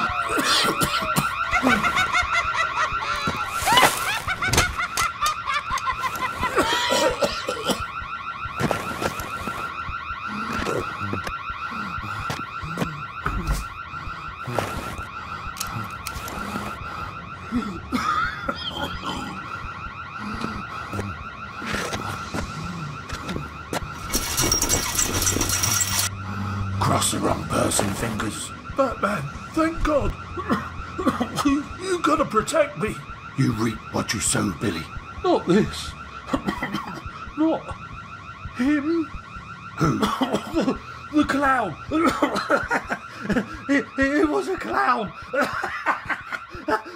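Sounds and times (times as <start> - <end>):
electronic alarm warbling: 0.0 - 46.9.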